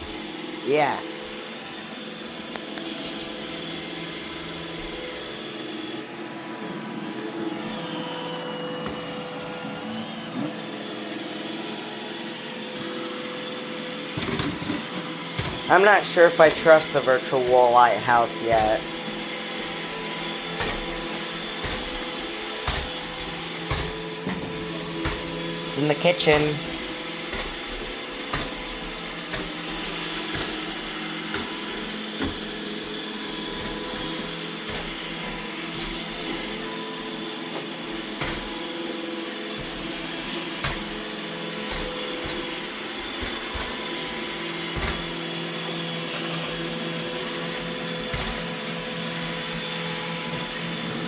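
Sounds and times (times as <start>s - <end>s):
robot vacuum motor hum: 0.0s - 51.0s.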